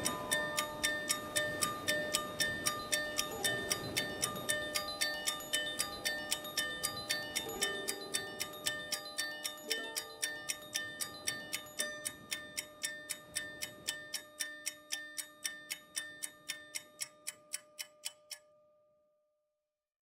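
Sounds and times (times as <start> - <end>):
phone ringtone ticks and chimes: 0.0 - 18.8.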